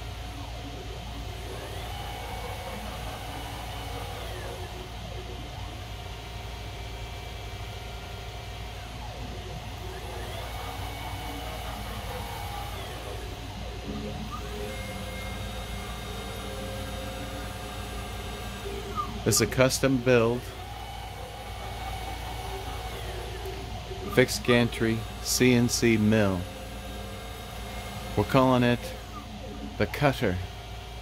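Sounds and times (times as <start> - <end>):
steady low hum: 0.0 - 31.0
stepper motor whine: 0.0 - 31.0.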